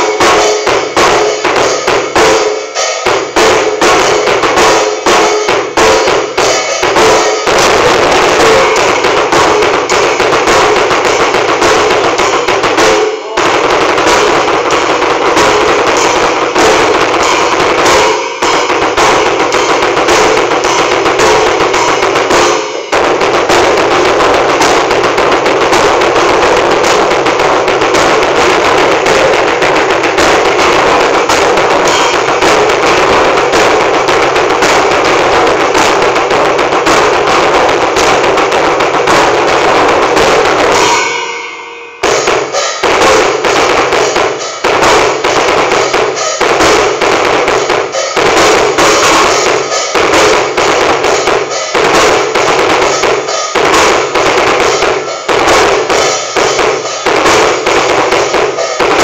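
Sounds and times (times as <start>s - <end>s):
fast double bass drum rolls: 0.0s - 41.1s, 42.0s - 59.0s.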